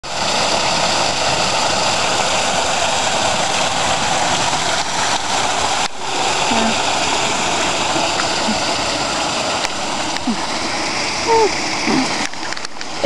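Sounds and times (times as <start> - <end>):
water splashing over rocks: 0.0 - 13.0.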